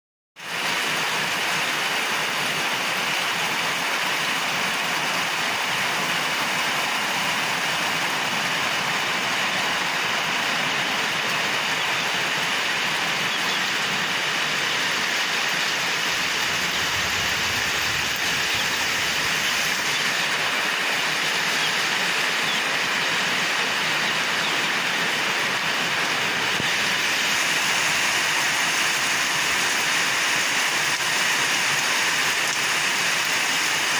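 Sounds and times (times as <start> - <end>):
steady rain falling: 0.4 - 33.9.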